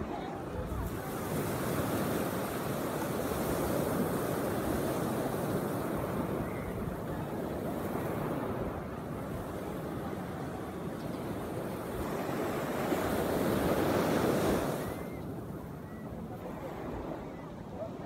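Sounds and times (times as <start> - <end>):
sea waves washing up beach: 0.0 - 17.4.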